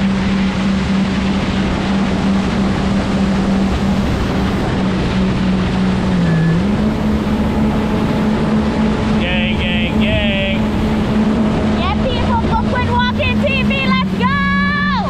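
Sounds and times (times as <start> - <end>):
jet ski engine drone: 0.0 - 15.0
rush of wind and water spray: 0.0 - 15.0.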